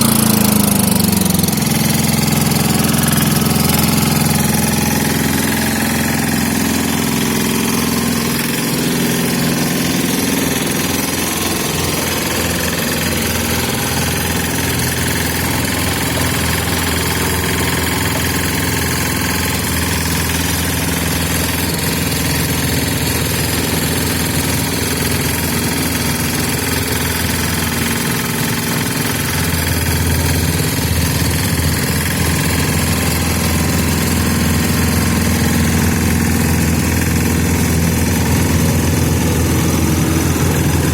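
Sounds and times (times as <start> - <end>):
road roller engine droning: 0.0 - 40.9.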